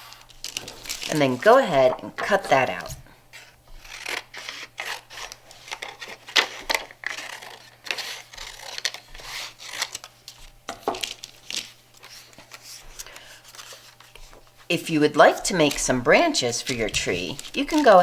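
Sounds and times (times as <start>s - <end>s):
paper rustling: 0.1s - 18.0s
scissors snipping paper: 0.4s - 14.3s, 15.0s - 18.0s.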